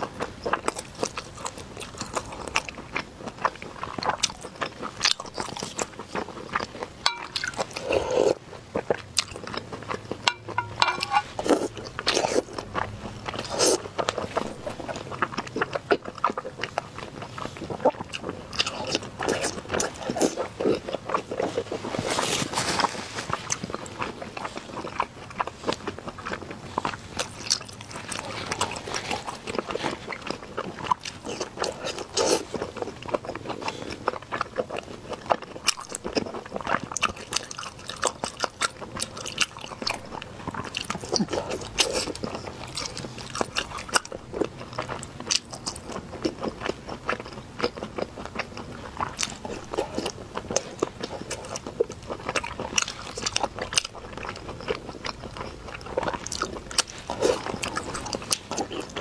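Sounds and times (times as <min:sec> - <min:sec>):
chewing with mouth clicks: 0:00.0 - 0:59.0.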